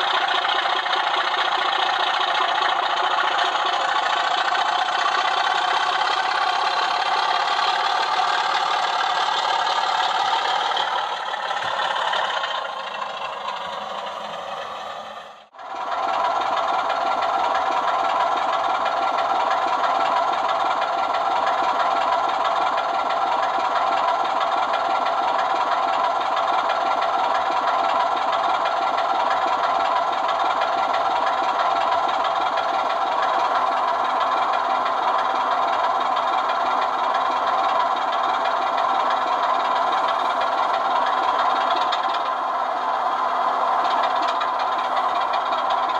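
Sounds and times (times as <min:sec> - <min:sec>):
diesel engine sound from small speaker: 0:00.0 - 0:45.9.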